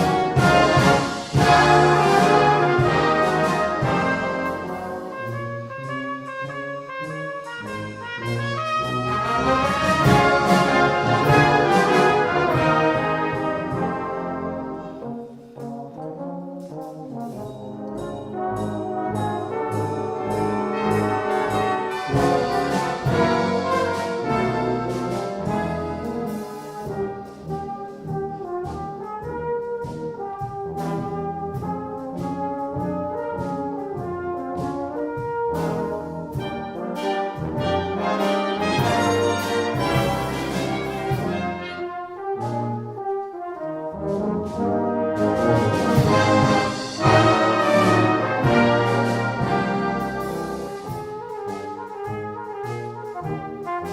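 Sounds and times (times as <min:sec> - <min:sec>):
brass band playing a hymn: 0:00.0 - 0:53.9.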